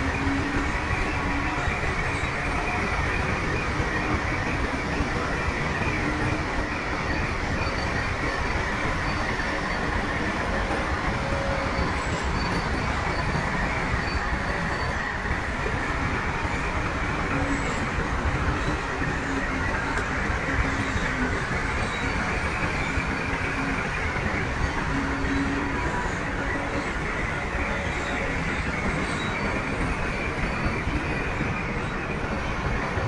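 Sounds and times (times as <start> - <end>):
steel tracks clattering: 0.0 - 33.0.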